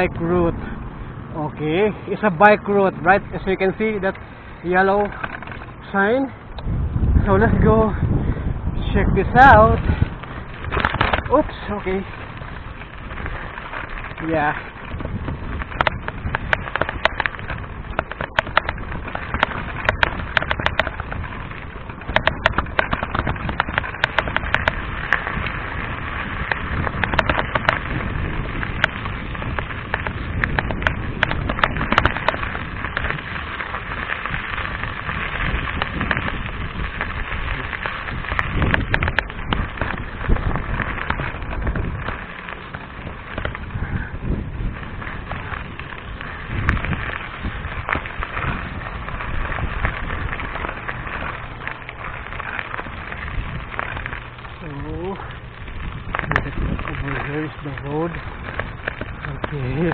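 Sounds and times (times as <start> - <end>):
bike clicks and rattles: 0.0 - 59.9
tyre and wind rushing: 0.0 - 59.9.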